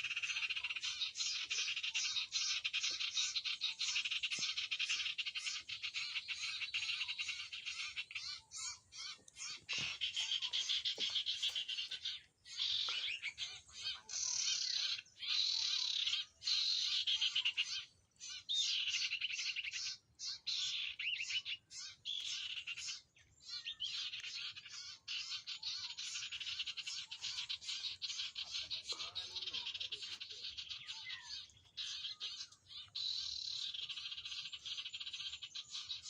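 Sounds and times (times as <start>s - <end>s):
bird singing chattering trills: 0.0s - 36.0s.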